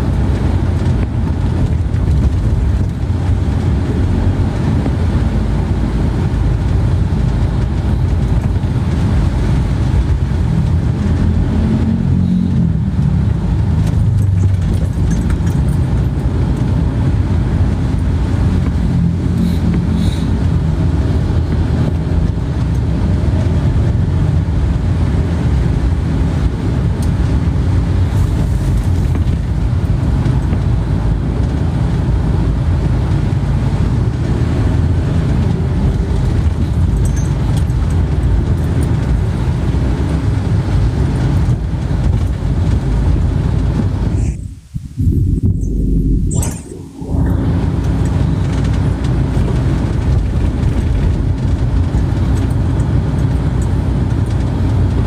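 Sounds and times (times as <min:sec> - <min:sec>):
vehicle engine rumble from inside: 0:00.0 - 0:55.0.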